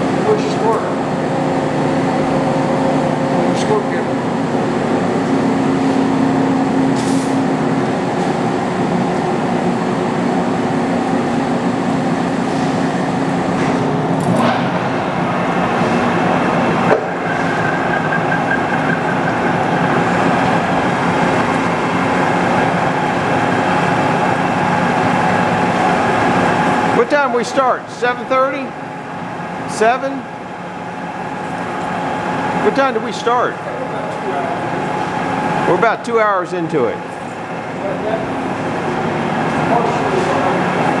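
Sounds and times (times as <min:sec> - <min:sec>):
lathe machine hum: 0:00.0 - 0:27.0, 0:28.7 - 0:35.8, 0:37.0 - 0:41.0.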